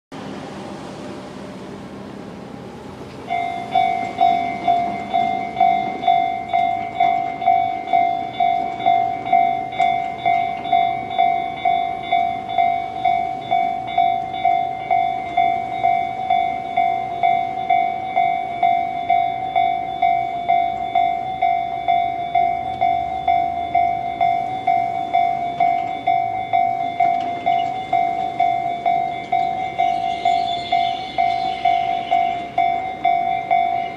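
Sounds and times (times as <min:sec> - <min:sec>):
electronic crossing bell dinging: 0:03.2 - 0:33.9.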